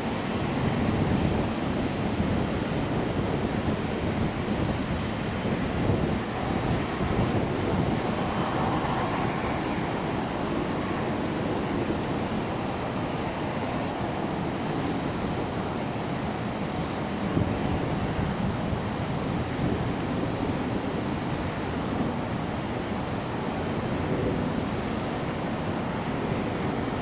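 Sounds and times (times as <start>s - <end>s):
jet engines at takeoff power: 0.0s - 27.0s.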